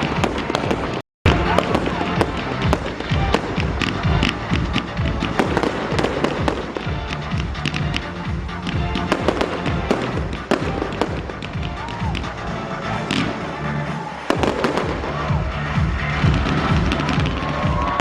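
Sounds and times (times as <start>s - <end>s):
fireworks bangs and crackling: 0.0s - 18.0s
loud music: 0.0s - 18.0s.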